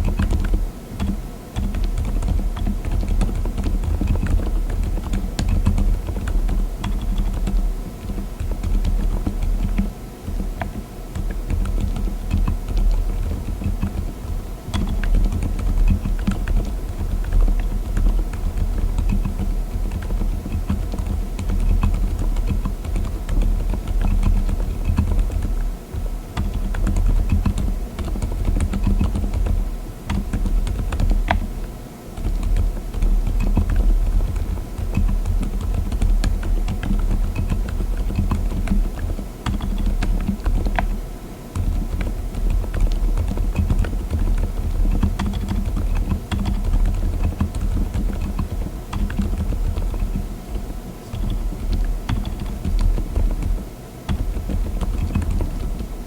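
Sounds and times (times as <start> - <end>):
muffled mechanical keyboard typing: 0.0 - 56.0.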